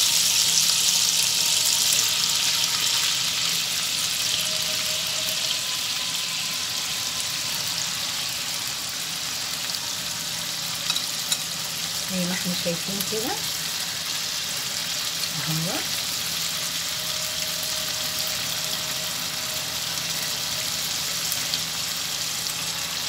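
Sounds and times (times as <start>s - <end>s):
chicken sizzling in hot oil: 0.0s - 23.0s.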